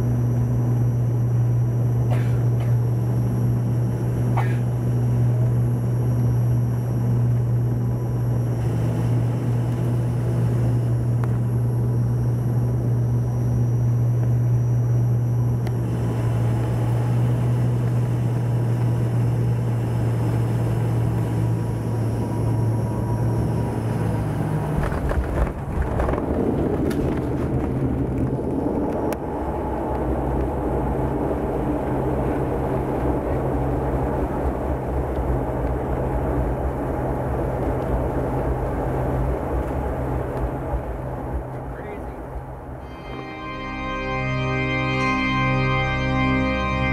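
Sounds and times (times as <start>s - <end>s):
plane engine drone: 0.0s - 46.9s
plane rolling on runway rumble: 0.0s - 46.9s.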